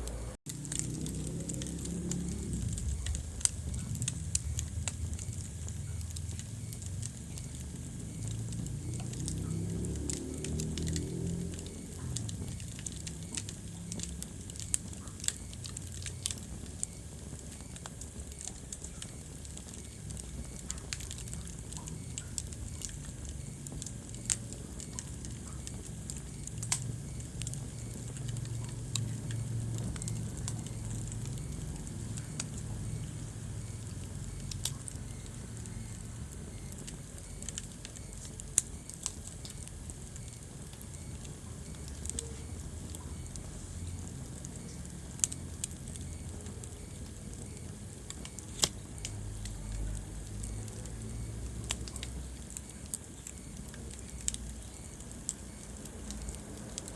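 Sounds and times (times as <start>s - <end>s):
wood fire crackling in fireplace: 0.0s - 56.9s.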